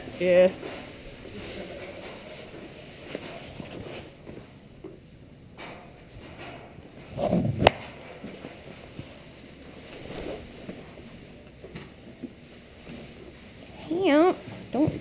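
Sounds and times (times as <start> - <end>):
clothing rustling: 0.0 - 4.5, 6.0 - 14.9.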